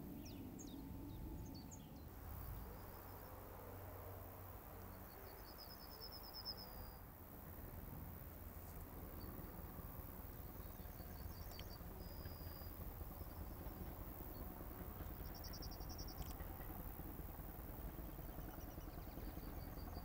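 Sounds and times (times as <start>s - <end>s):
small birds chirping: 0.0s - 7.0s, 8.6s - 20.0s
low steady rumble: 0.0s - 20.0s.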